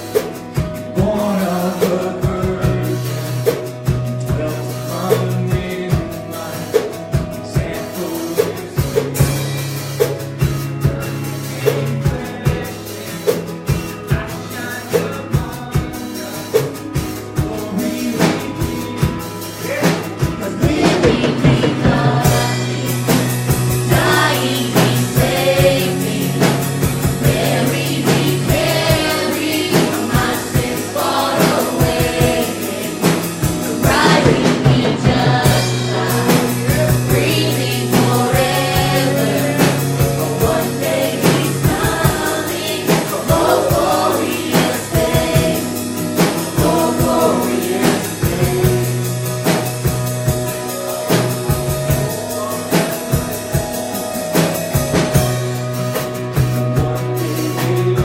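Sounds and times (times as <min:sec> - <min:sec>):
voices singing strongly: 0:00.0 - 0:55.4, 0:57.0 - 0:58.0
drum kit beat: 0:00.0 - 0:58.0.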